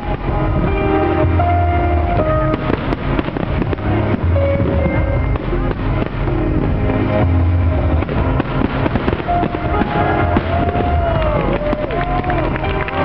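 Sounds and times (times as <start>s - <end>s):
fireworks bursting: 0.0s - 13.0s
loud music with heavy bass: 0.0s - 13.0s.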